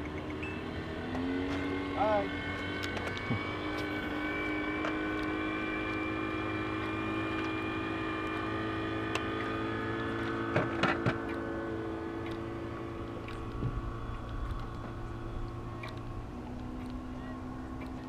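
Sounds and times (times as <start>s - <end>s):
boat motor droning: 0.0s - 18.0s.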